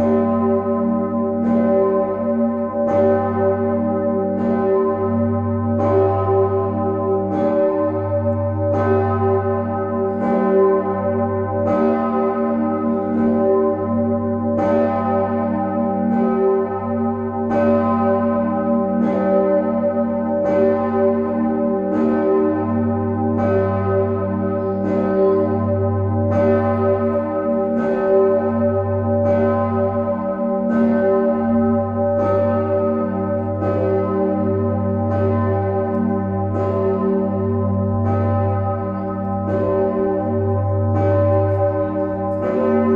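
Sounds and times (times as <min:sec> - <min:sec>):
church bell ringing: 0:00.0 - 0:42.9.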